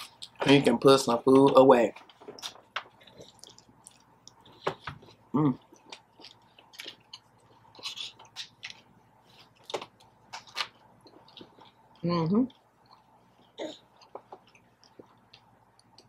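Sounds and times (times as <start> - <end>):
person chewing sandwich: 2.1 - 16.0.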